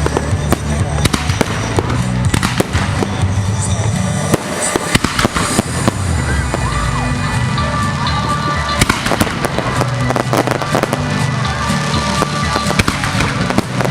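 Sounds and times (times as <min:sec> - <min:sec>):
fireworks bangs and crackles: 0:00.0 - 0:13.9
music with strong bass: 0:00.0 - 0:13.9.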